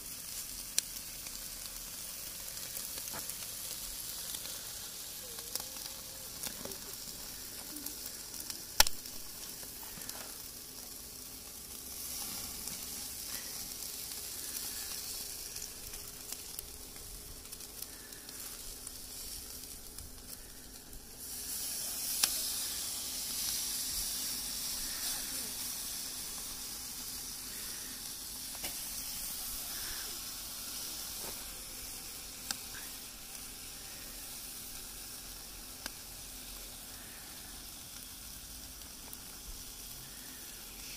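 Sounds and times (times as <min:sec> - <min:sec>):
food sizzling on a grill: 0:00.0 - 0:40.9.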